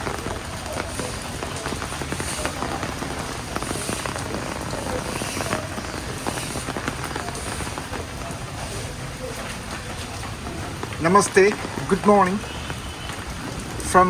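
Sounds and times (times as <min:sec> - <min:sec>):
heavy rain falling: 0:00.0 - 0:14.0
raindrops ticking close by: 0:00.0 - 0:14.0.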